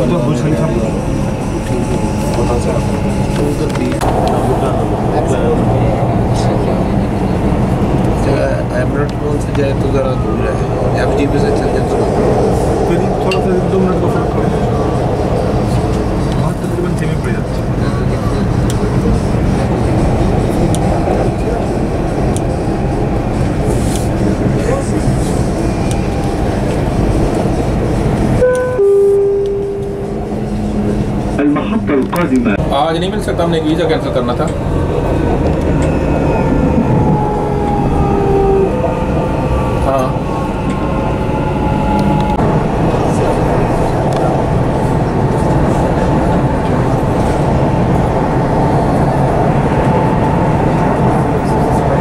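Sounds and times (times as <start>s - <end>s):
train rumble inside carriage: 0.0s - 52.0s.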